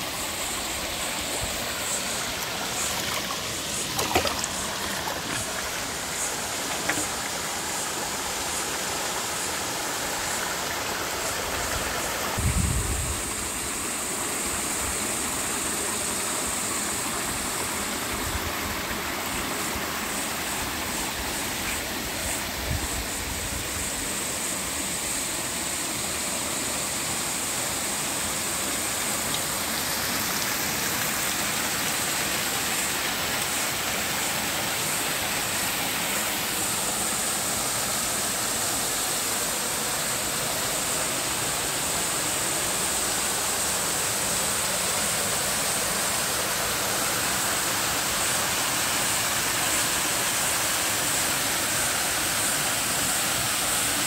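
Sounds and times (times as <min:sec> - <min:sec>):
water rushing over waterfall: 0:00.0 - 0:12.5, 0:13.1 - 0:54.0.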